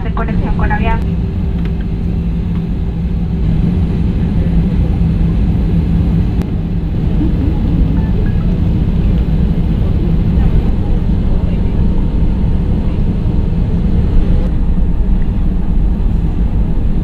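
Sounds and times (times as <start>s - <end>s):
constant hum: 0.0s - 17.0s
low rumble of jet engines: 0.0s - 17.0s.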